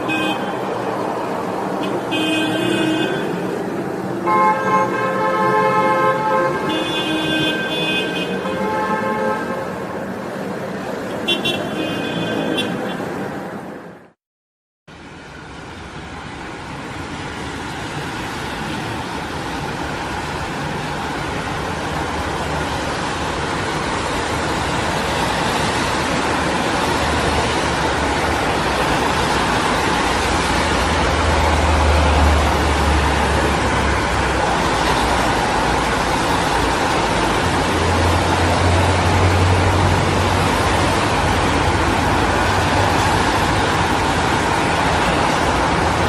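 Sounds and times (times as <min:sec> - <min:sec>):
road traffic noise: 0:00.0 - 0:14.2, 0:14.9 - 0:46.0.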